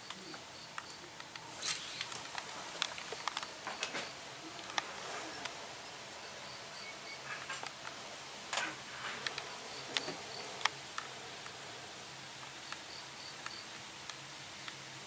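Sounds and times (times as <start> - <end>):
sharp clicks and ticks: 0.0 - 5.6, 6.8 - 11.6, 12.4 - 14.8
high insect chirps: 0.0 - 13.8
insects hissing: 0.0 - 15.0.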